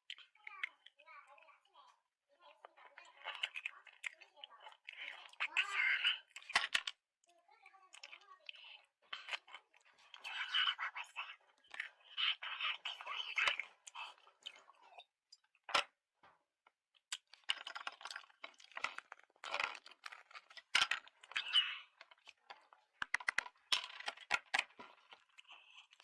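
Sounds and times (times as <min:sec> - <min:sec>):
crunching and chewing cookies: 0:00.0 - 0:26.0.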